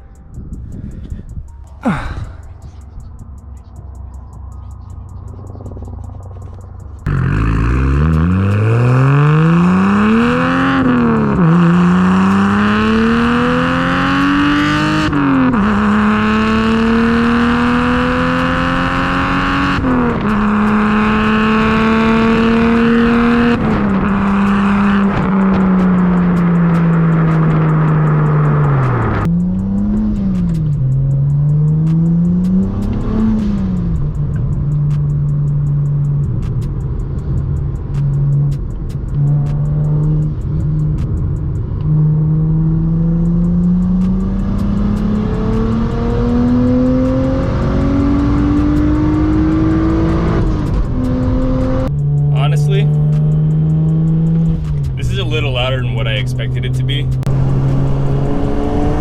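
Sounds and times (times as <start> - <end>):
car engine accelerating and revving: 0.5 - 59.0.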